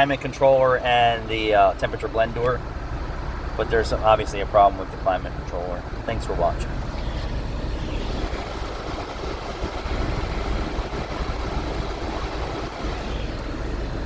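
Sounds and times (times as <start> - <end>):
car engine idling: 0.0 - 14.0
blower fan air rush: 1.2 - 14.0.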